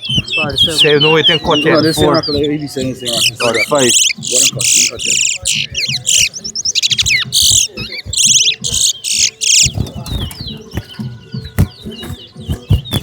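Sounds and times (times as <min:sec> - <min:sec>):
bird chirps and calls: 0:00.0 - 0:13.0
finches singing buzzy trills: 0:00.0 - 0:13.0.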